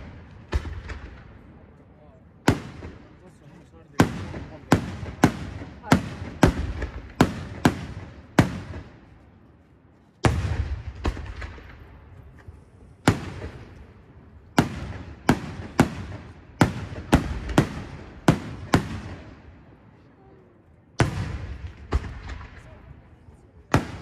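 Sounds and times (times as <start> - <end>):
fireworks bursting with echo: 0.0 - 1.8, 2.4 - 9.3, 10.2 - 19.8, 21.0 - 24.0.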